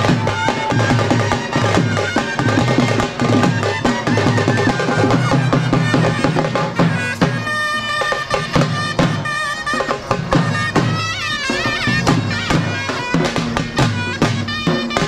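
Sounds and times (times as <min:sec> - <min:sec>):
frame drums beaten fast: 0:00.0 - 0:15.0
reedy wind instrument notes: 0:00.0 - 0:15.0.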